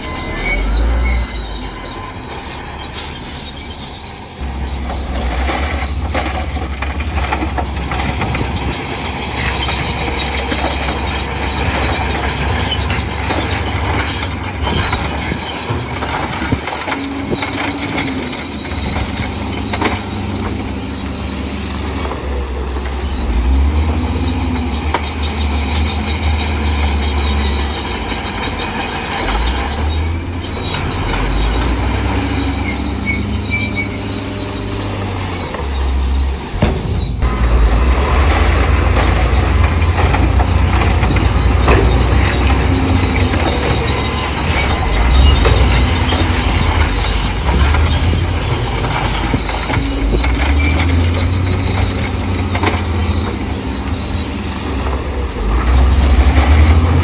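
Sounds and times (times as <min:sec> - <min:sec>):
bulldozer diesel engine: 0:00.0 - 0:57.0
crawler tracks squealing and clanking: 0:00.0 - 0:57.0.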